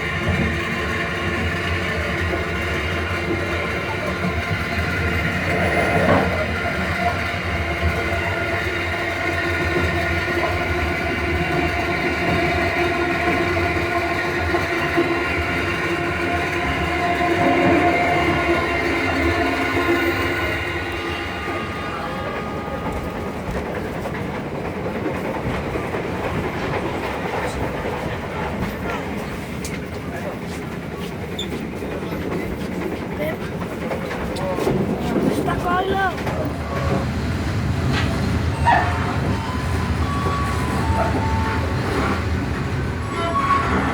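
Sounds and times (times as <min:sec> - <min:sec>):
passenger train rumbling: 0:00.0 - 0:43.9
wheels clacking over rail joints: 0:00.1 - 0:43.9.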